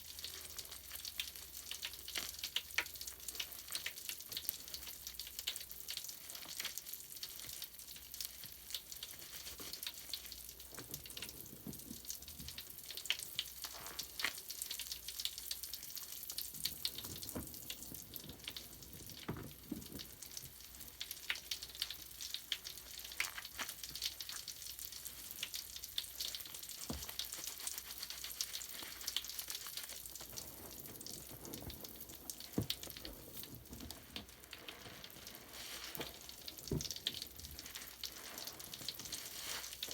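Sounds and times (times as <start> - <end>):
bubble bath foam crackling: 0.0 - 39.9.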